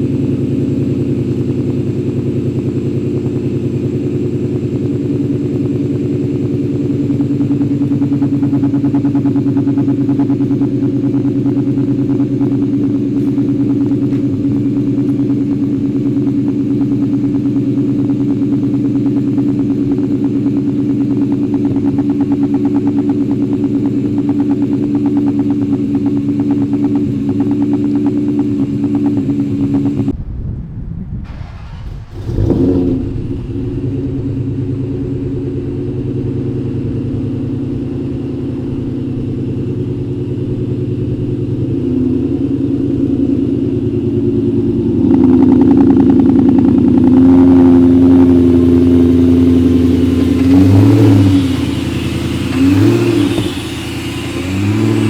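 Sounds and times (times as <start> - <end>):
car engine idling: 0.0 - 30.2, 31.3 - 55.0.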